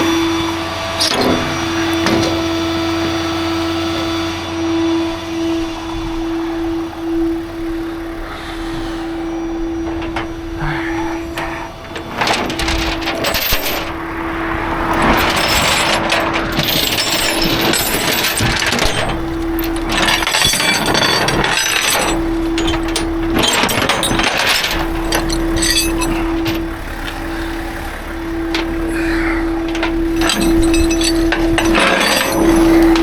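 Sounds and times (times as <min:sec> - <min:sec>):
steady low tone: 0:00.0 - 0:33.0
metal clanking and rattling: 0:00.9 - 0:04.1, 0:07.2 - 0:33.0.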